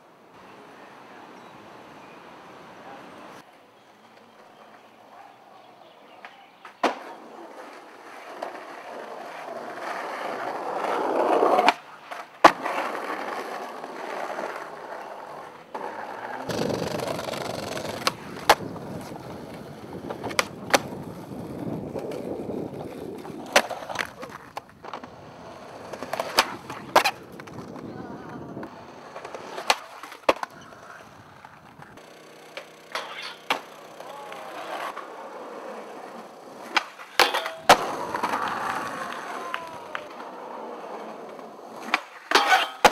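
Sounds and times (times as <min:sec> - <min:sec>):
skateboard wheels rolling: 0:01.9 - 0:42.9
skateboard pops and clacks: 0:06.2 - 0:15.0, 0:15.7 - 0:27.9, 0:28.6 - 0:35.0, 0:36.0 - 0:42.9.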